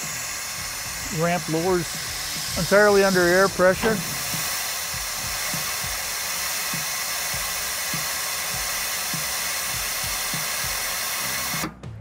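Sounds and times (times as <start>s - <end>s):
compressed air hissing: 0.0s - 11.8s.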